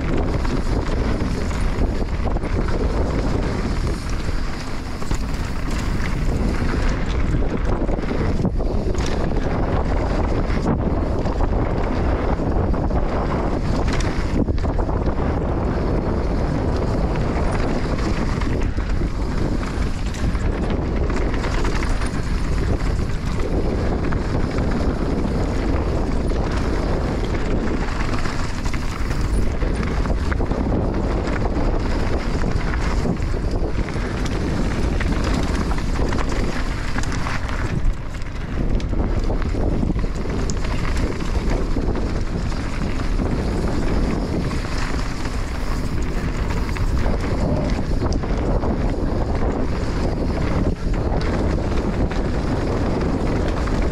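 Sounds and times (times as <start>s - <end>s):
motorcycle engine rumble: 0.0s - 53.9s
wind noise on microphone: 0.0s - 53.9s.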